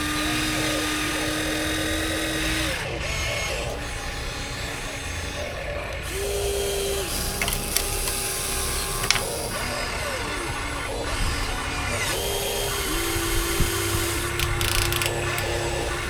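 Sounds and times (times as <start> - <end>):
sharp clicks: 0.0 - 16.0
small electric motors whining: 0.0 - 16.0.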